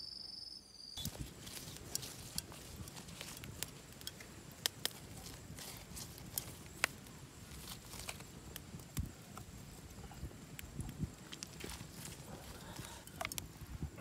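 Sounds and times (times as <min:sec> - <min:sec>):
hands handling leaves and skewers: 0:01.0 - 0:13.7.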